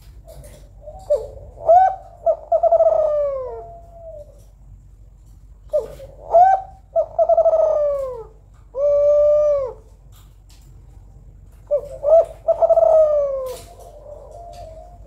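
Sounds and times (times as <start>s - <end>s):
dove cooing: 0.0s - 4.6s, 5.6s - 10.2s, 11.5s - 15.0s.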